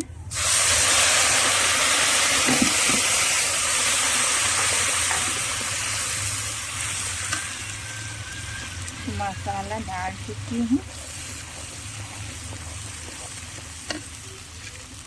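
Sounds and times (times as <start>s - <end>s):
spices sizzling in hot oil: 0.2s - 15.0s.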